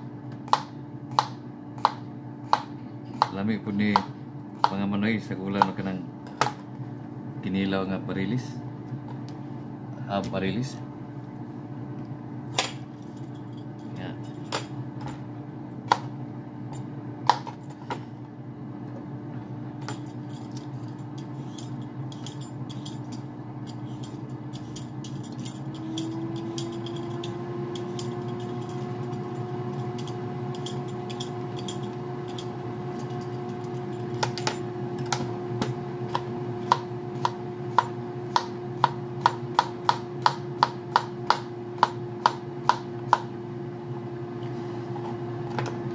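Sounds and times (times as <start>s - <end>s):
fan hum: 0.0s - 45.9s.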